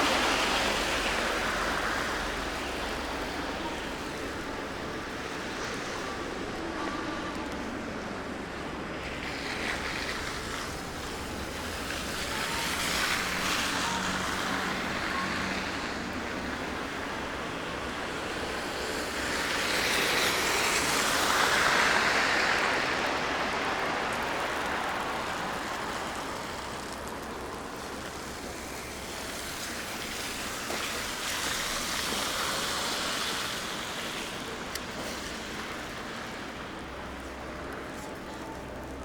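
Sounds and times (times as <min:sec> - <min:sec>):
tyre noise from passing cars: 0:00.0 - 0:39.0.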